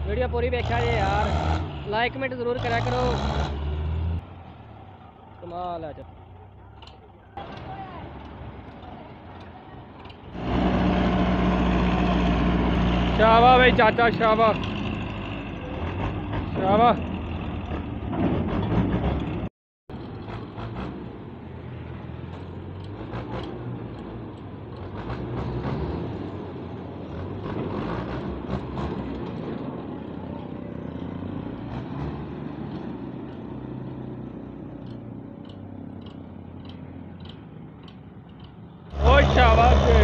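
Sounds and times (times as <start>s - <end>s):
tractor diesel engine droning: 0.0s - 21.4s, 22.3s - 40.0s.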